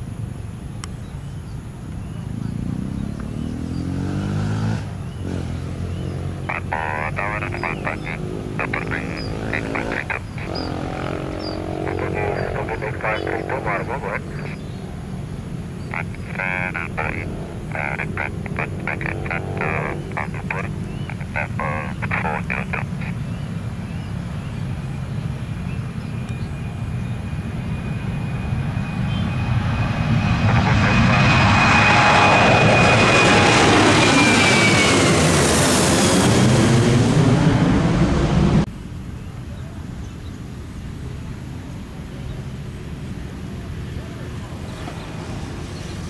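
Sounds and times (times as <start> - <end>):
high engine whine: 0.0 - 46.0
jet airliner taking off overhead: 1.6 - 38.7, 40.5 - 46.0.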